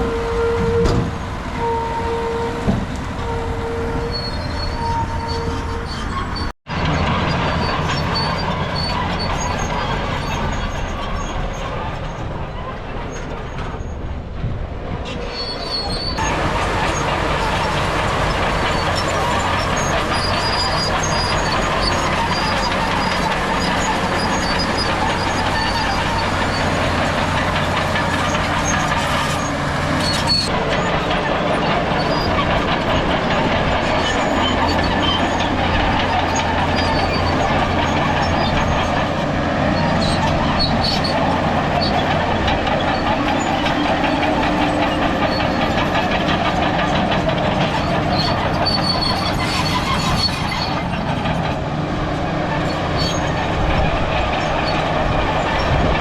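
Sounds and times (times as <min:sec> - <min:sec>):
high squeaks: 0:00.0 - 0:12.2, 0:15.1 - 0:51.6, 0:52.2 - 0:56.0
diesel engine under load: 0:00.0 - 0:56.0
steel tracks clanking and squealing: 0:00.0 - 0:56.0.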